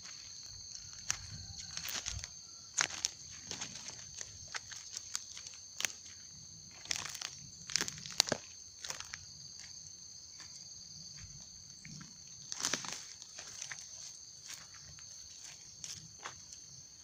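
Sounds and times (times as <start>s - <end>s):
footsteps crunching through dry leaves: 0.0s - 16.8s
insects droning: 0.0s - 17.0s.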